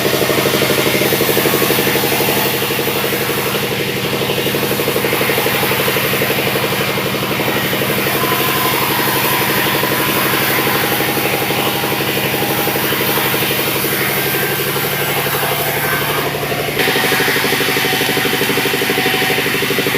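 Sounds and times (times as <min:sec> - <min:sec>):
sawmill engine running: 0:00.0 - 0:19.9.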